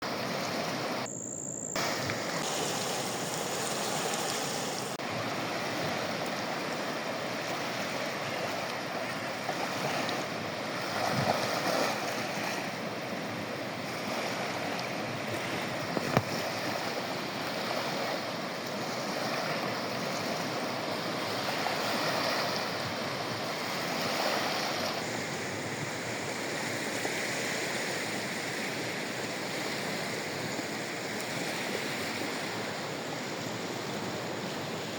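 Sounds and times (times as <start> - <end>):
sea waves washing onto shore: 0.0 - 1.1, 1.8 - 34.9.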